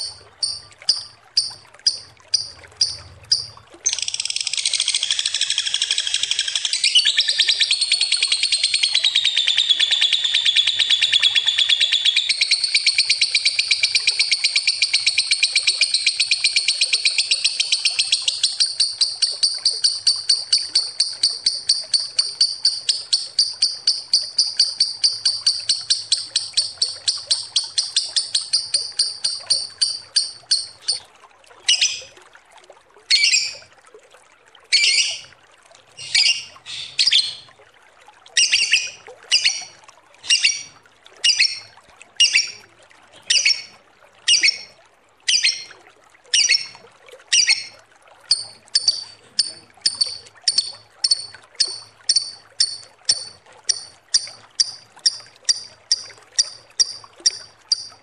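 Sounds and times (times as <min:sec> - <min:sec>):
lovebird chattering: 0:00.0 - 0:31.0, 0:31.7 - 0:32.1, 0:33.1 - 0:33.6, 0:34.7 - 0:35.2, 0:36.0 - 0:37.5, 0:38.4 - 0:42.6, 0:43.3 - 0:43.7, 0:44.3 - 0:44.7, 0:45.3 - 0:45.7, 0:46.4 - 0:58.0.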